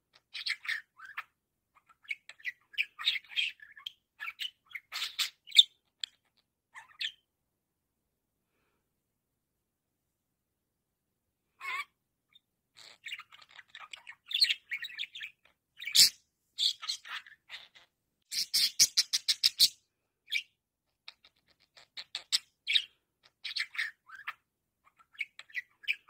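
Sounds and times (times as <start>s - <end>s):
budgerigar chirping and chattering: 0.1s - 7.2s, 11.6s - 26.0s.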